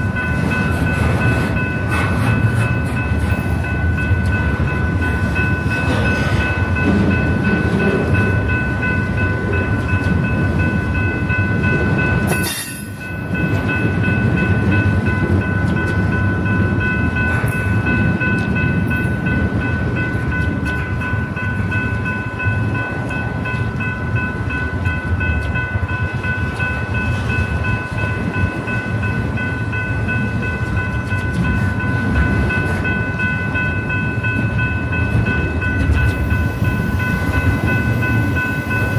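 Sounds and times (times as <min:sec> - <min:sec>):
high-pitched ringing tones: 0:00.0 - 0:38.9
train cars rumbling on rails: 0:00.0 - 0:38.9.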